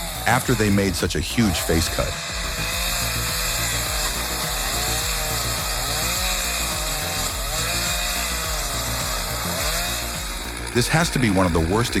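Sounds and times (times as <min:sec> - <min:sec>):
chainsaw cutting under load: 0:00.0 - 0:12.0.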